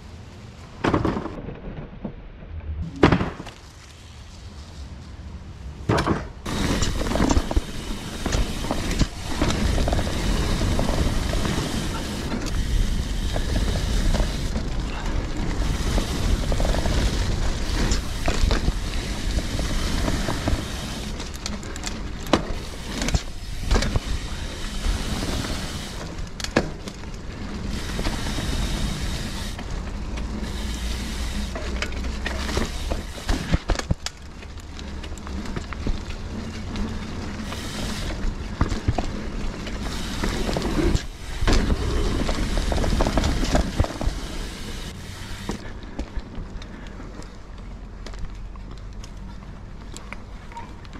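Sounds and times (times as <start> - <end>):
tyres rumbling on dirt: 5.7 - 50.5
bike chain and frame rattling: 6.4 - 50.9.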